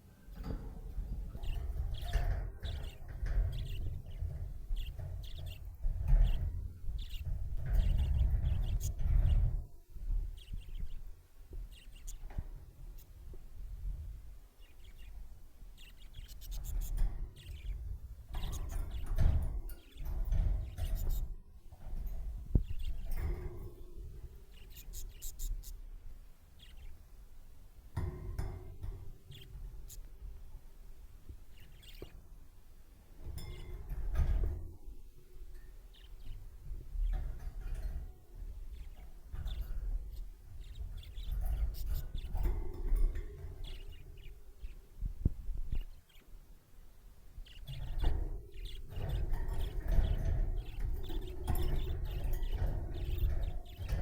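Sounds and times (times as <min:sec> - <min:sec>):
budgies chirping: 0:00.0 - 0:54.0.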